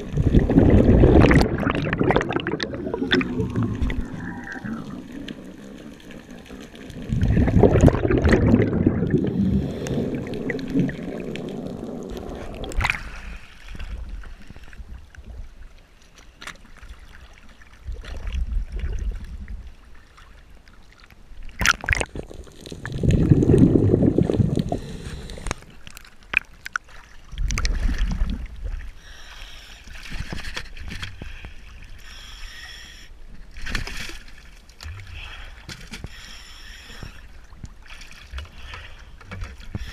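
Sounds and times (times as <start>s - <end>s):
underwater bubbling: 0.0s - 15.8s, 16.8s - 33.6s
water sloshing and splashing: 0.0s - 29.0s, 29.7s - 32.0s, 33.3s - 36.2s, 36.9s - 39.9s.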